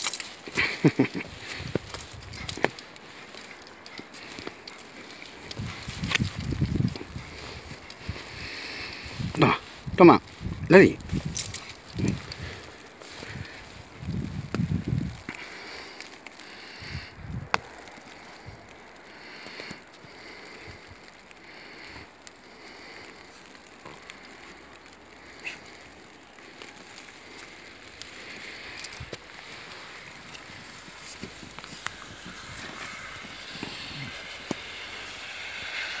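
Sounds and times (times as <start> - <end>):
snow crunching and rustling: 0.0 - 36.0.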